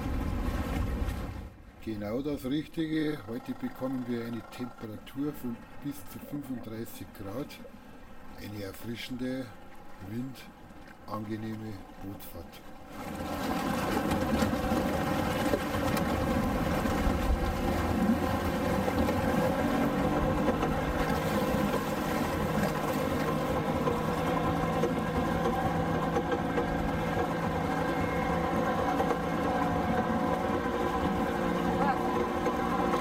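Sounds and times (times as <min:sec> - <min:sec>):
outboard motor idling: 0:02.1 - 0:33.0.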